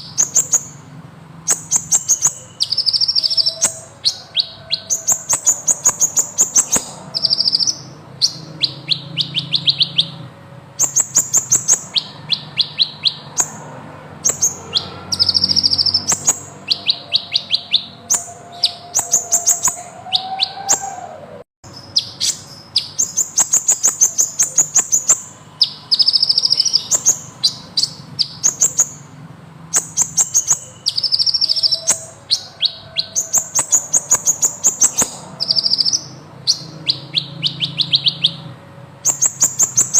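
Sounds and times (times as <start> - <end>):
sunbird singing high trills: 0.0 - 0.9, 1.5 - 39.9.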